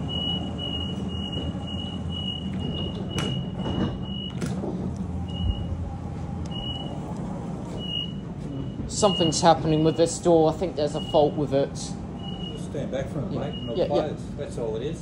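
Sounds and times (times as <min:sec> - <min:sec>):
train door warning beeps: 0:00.0 - 0:12.8, 0:13.4 - 0:14.0
low train hum: 0:00.0 - 0:15.0.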